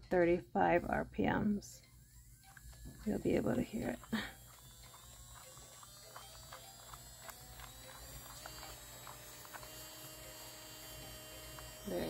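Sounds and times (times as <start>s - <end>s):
nail drill motor whine: 1.7s - 12.0s.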